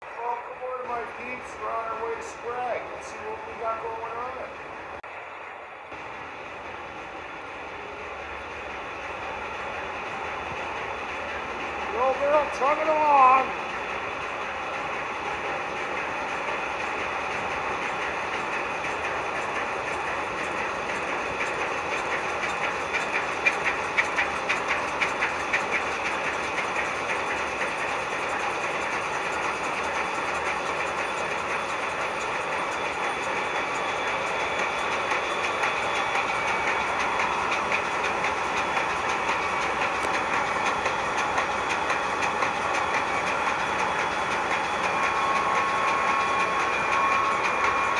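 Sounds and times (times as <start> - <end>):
ship diesel engine running: 0.0 - 47.9
regular mechanical clatter: 8.3 - 47.9.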